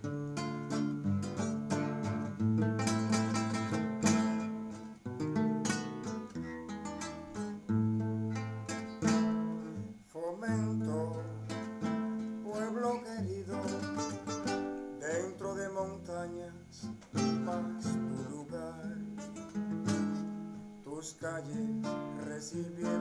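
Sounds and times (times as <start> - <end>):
acoustic guitars playing: 0.0 - 23.0.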